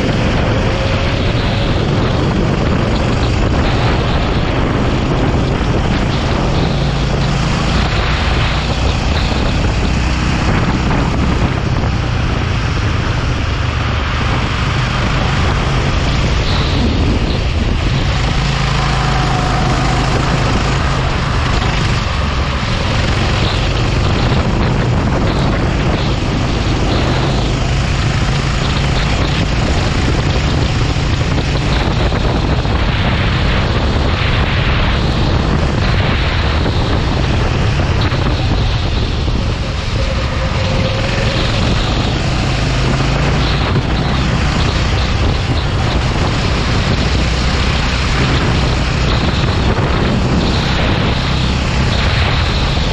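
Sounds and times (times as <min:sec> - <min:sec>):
kart engine racing: 0:00.0 - 0:52.9
wind on microphone: 0:00.0 - 0:52.9.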